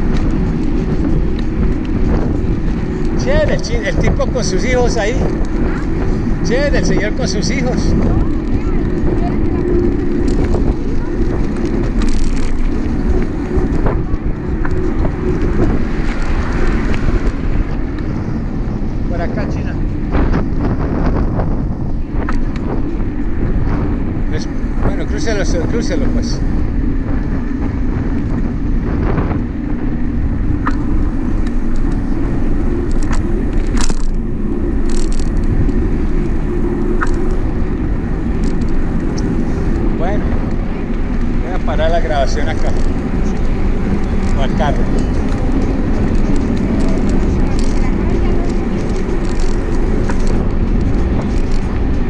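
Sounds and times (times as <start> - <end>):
sharp clicks and rattles: 0.0 - 18.2, 19.0 - 52.0
road rumble: 0.0 - 52.0
tyres humming on asphalt: 0.0 - 52.0
wind buffeting microphone: 0.0 - 52.0.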